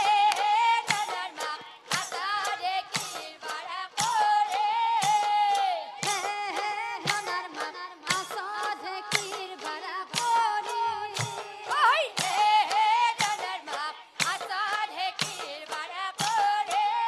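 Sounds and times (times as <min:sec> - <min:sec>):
drum and cymbal strikes: 0:00.0 - 0:17.0
woman singing devotional song: 0:00.0 - 0:17.0.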